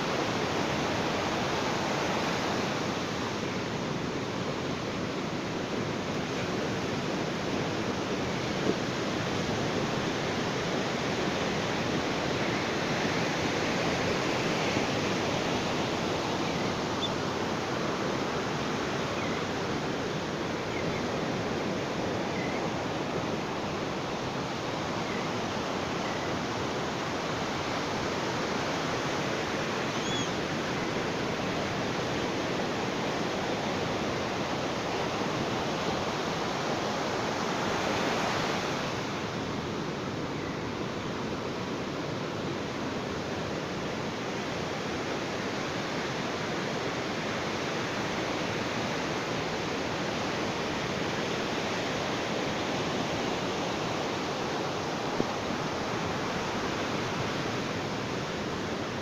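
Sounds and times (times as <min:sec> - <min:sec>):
ocean surf washing on beach: 0:00.0 - 0:59.0.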